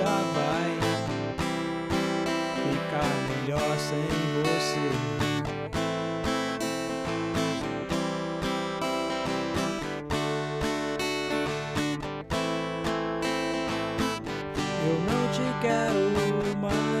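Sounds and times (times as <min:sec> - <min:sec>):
guitar chords strummed: 0:00.0 - 0:17.0.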